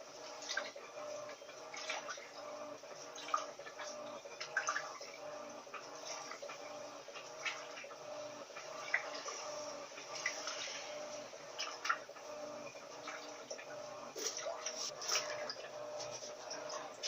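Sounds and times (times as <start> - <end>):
faint machine hum: 0.0 - 17.0
water splashing in washing machine: 0.0 - 17.0.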